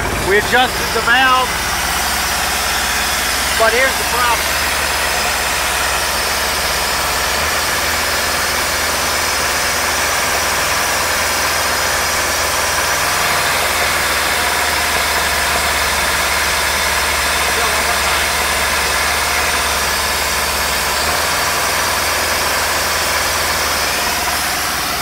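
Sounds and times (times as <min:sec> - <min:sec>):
marine engine idling: 0:00.0 - 0:25.0.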